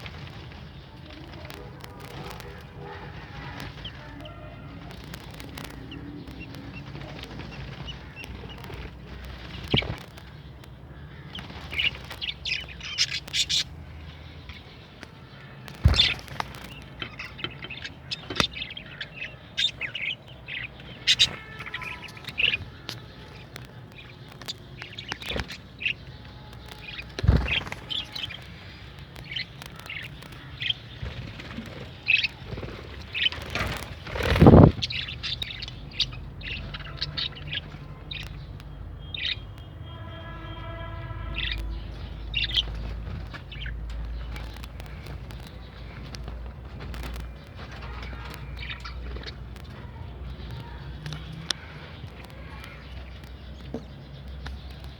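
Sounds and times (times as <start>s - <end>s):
small parrots chirping: 0.0s - 54.9s.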